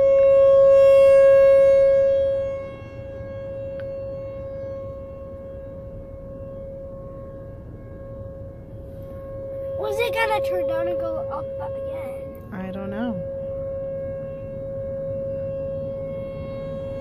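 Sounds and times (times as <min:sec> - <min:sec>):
rotating tornado siren: 0:00.0 - 0:17.0.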